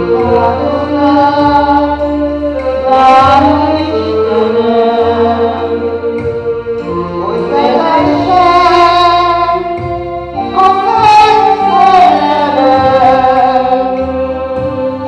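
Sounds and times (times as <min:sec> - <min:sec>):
low instrumental accompaniment: 0:00.0 - 0:15.0
woman singing: 0:00.0 - 0:15.0.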